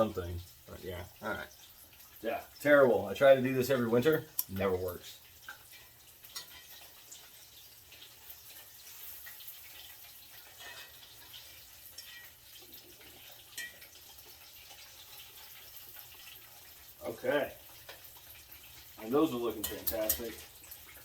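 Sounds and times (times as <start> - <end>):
chicken frying in hot oil: 0.0 - 21.0
oil crackling and popping: 0.0 - 21.0.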